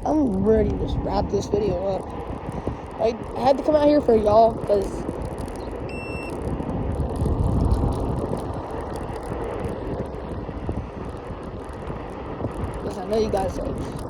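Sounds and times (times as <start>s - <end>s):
scooter rolling noise: 0.0s - 14.0s
wind buffeting microphone: 0.0s - 14.0s.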